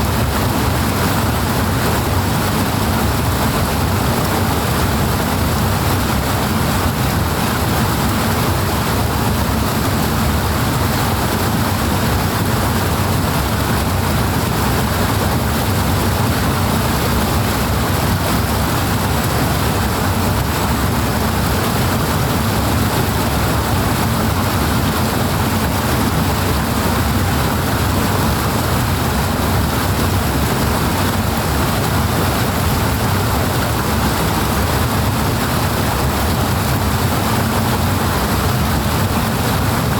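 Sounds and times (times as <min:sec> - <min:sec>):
water rushing with deep rumble: 0:00.0 - 0:39.9.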